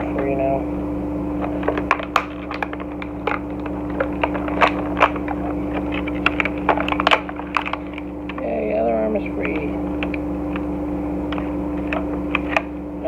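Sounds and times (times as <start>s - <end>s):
cardboard and plastic crackling: 1.2s - 12.8s.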